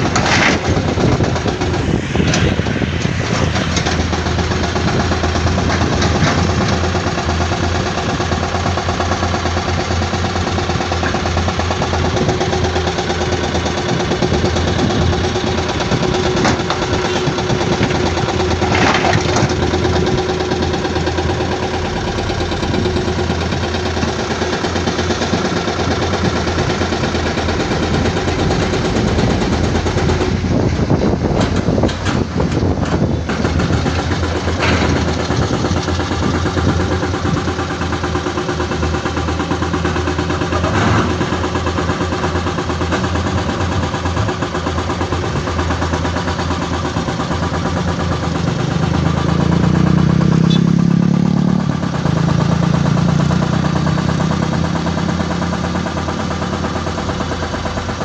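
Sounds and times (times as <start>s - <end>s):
clatter: 0.0s - 58.0s
diesel machinery rumbling: 0.0s - 58.0s.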